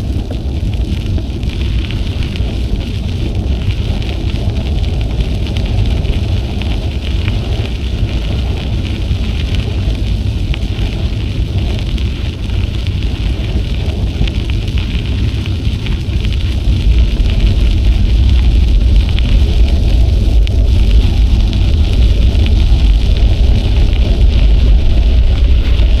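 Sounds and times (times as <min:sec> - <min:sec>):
bicycle tyre noise: 0:00.0 - 0:26.0
wind buffeting microphone: 0:00.0 - 0:26.0.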